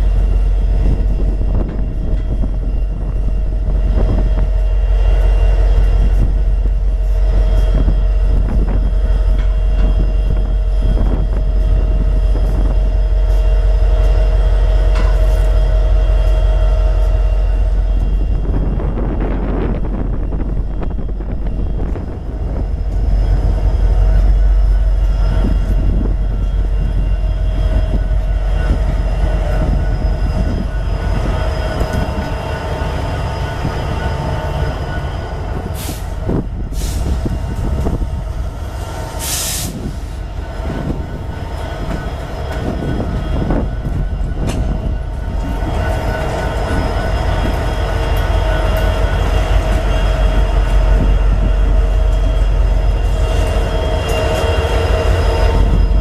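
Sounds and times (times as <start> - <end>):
thin steady squeal: 0.0 - 56.0
train wheels rumbling on rail: 0.0 - 56.0.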